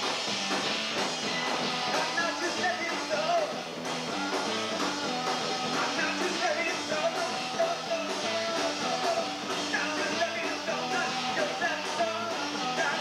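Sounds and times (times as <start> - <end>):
drum kit beat: 0.0 - 13.0
electric guitar and bass: 0.0 - 13.0
wavering lead guitar line: 0.0 - 13.0.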